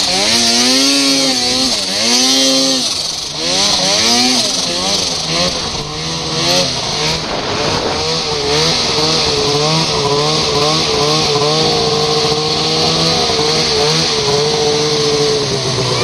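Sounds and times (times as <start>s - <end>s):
snowmobile engine: 0.0s - 16.0s.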